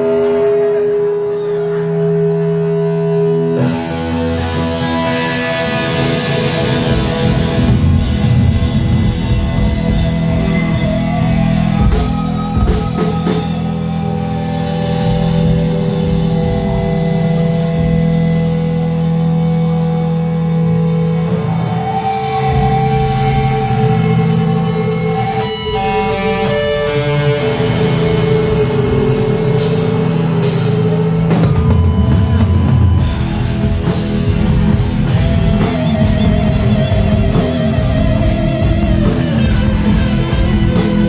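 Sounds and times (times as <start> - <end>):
rock band playing: 0.0 - 41.0.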